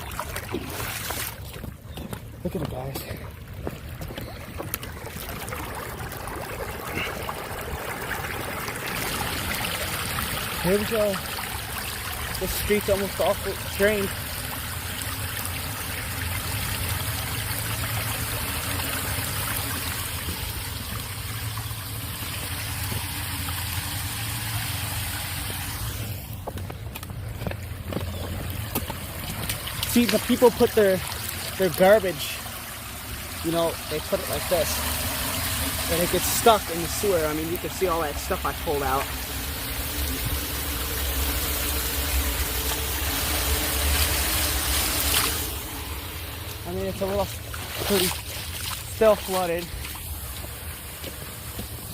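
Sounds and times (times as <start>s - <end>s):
water pouring down drain: 0.0s - 1.8s, 2.6s - 26.4s, 28.3s - 51.9s.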